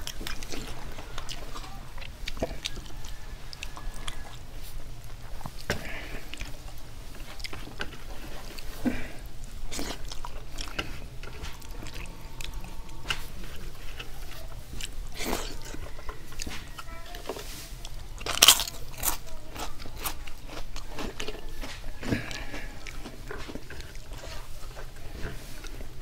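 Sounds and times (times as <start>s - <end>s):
man chewing food: 0.0s - 26.0s.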